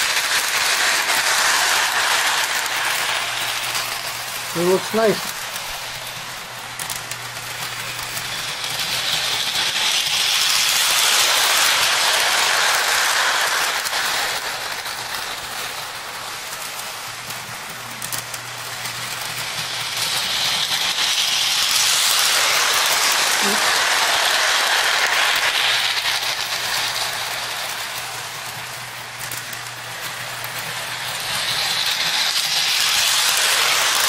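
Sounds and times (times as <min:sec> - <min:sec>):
model train wheels rumbling: 0:00.0 - 0:34.0.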